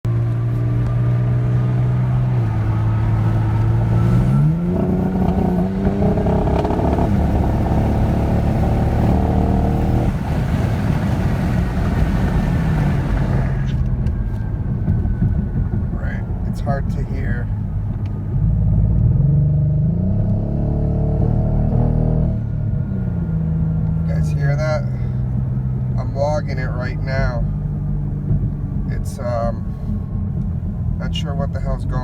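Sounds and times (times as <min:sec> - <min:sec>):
car engine and exhaust revving: 0:00.0 - 0:32.0.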